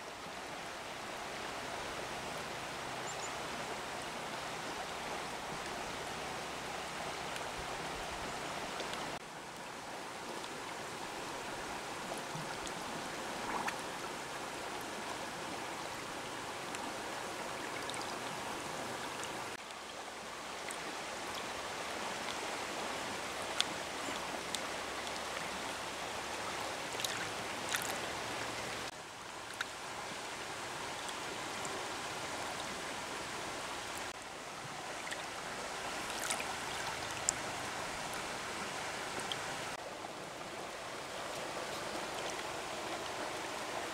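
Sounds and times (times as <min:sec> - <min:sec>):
river water flowing over pebbles: 0:00.0 - 0:43.9.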